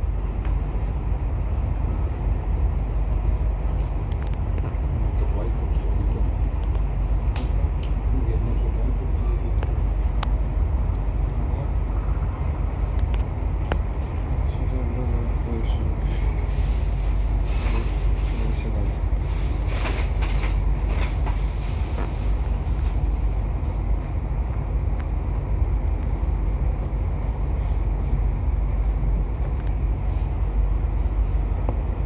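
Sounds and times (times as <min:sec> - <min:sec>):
train rumbling on track: 0:00.0 - 0:32.0
train clicks and rattles: 0:02.0 - 0:11.4, 0:12.6 - 0:32.0.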